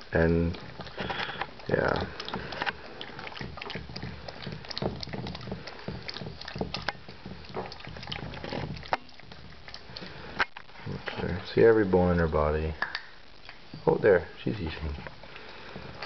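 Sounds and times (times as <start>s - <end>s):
puppy crunching kibble in metal bowl: 0.0s - 16.0s.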